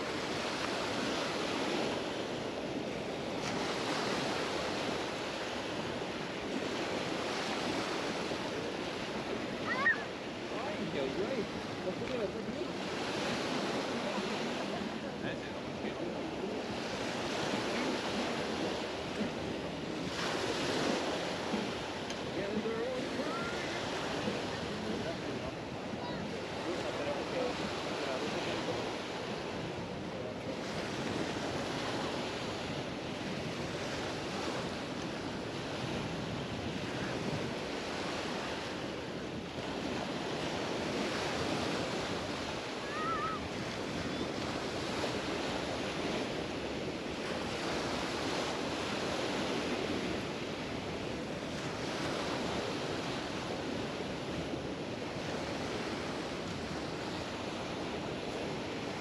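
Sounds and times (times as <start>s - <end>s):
surf washing onto beach: 0.0s - 59.0s.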